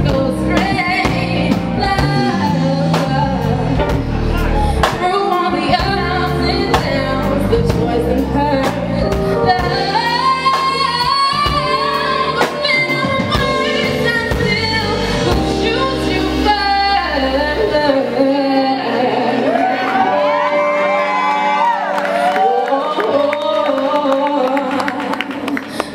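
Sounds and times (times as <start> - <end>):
woman singing: 0.0 - 4.0, 4.7 - 20.9, 22.3 - 25.9
bass: 0.0 - 25.9
keyboard: 0.0 - 25.9.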